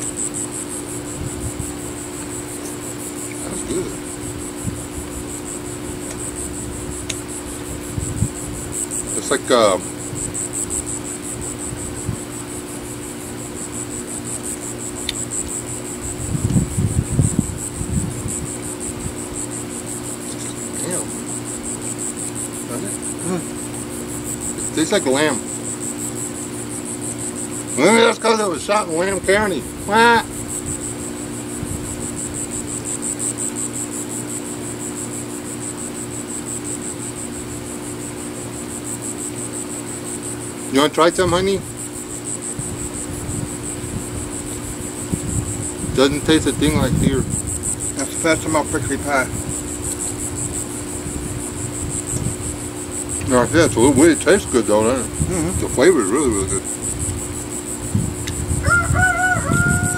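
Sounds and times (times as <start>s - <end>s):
insects chirping: 0.0s - 59.9s
low steady hum: 0.0s - 59.9s.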